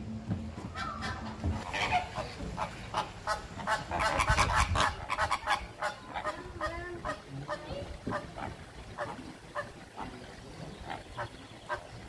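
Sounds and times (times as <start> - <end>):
waterfowl calling: 0.7 - 12.0.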